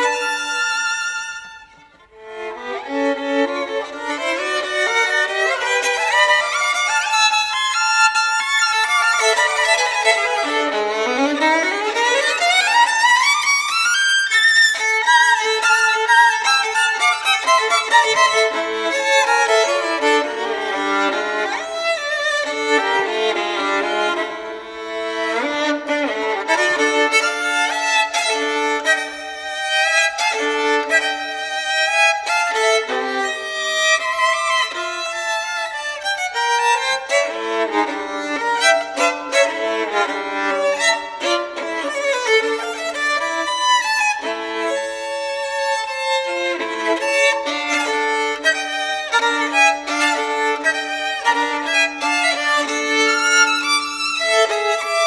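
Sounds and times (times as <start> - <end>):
solo violin music: 0.0 - 55.0.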